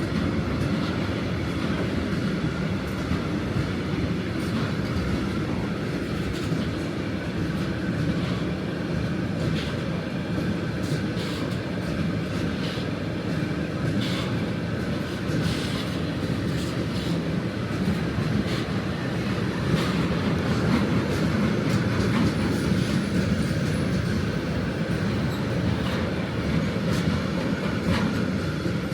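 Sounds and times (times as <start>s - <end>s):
freight train wheels rumbling: 0.0s - 28.9s
wheels clicking over rail joints: 0.0s - 28.9s.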